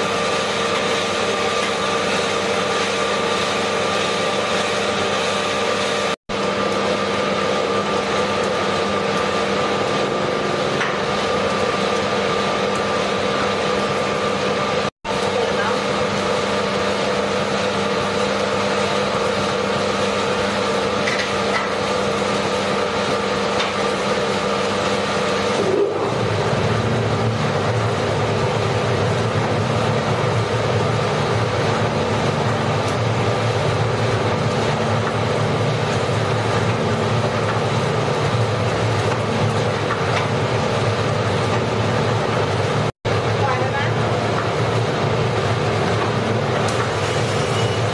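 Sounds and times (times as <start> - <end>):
coffee roaster mechanical drone: 0.0 - 47.9.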